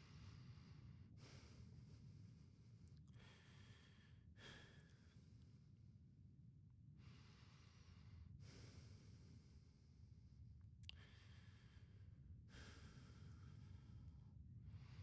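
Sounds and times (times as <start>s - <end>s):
man breathing faintly: 0.0s - 5.9s, 7.0s - 15.0s
low steady room hum: 0.0s - 15.0s.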